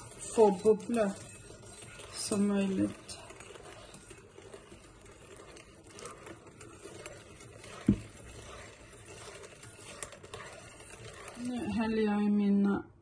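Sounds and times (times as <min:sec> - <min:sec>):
whisk ticking in ceramic bowl: 0:00.0 - 0:12.3.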